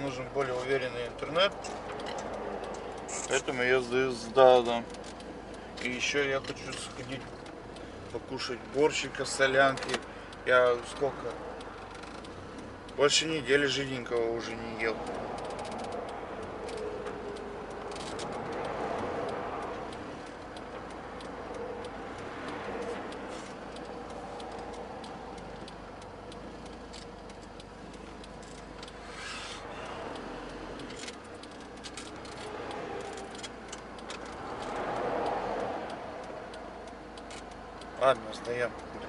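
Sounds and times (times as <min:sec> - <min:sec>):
light ticks and clicks: 0:00.0 - 0:39.0.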